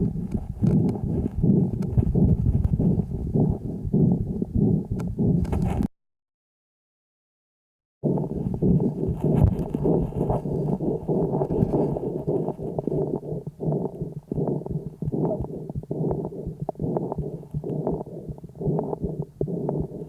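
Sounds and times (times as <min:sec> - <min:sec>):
muffled breath sounds: 0:00.0 - 0:05.9, 0:08.0 - 0:20.0.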